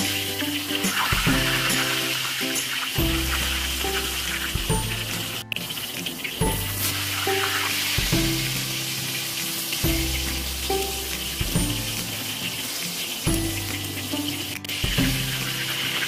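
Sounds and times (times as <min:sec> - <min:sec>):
background music with bass notes: 0:00.0 - 0:16.0
pork frying in hot oil: 0:00.0 - 0:16.0.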